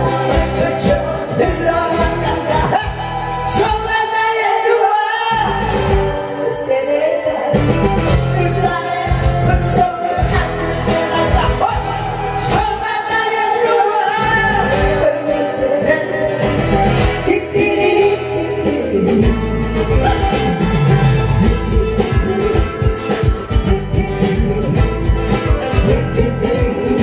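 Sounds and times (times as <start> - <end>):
backing track with steady beat: 0.0 - 27.0
two people singing: 0.0 - 27.0.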